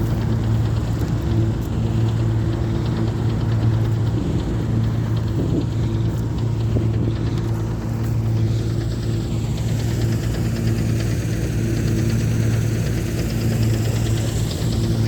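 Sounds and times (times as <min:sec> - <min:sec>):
combine harvester diesel engine: 0:00.0 - 0:15.0
mechanical rushing noise: 0:00.0 - 0:15.0.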